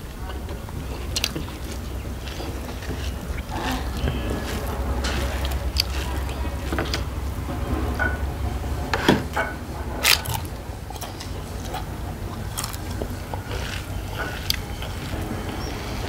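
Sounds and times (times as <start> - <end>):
person chewing food: 0.2 - 16.0.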